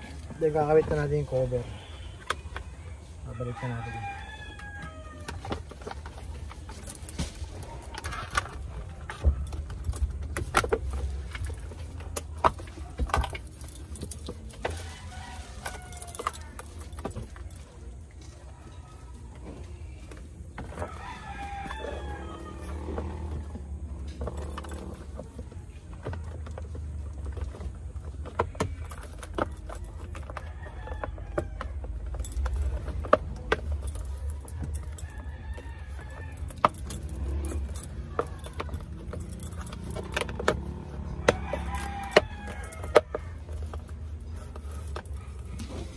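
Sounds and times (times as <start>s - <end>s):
keys jingling: 5.8s - 18.8s, 20.0s - 45.9s.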